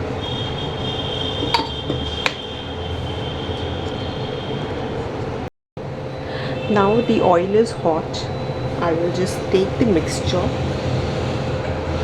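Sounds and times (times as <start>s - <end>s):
mechanical hum and hiss: 0.0s - 12.0s.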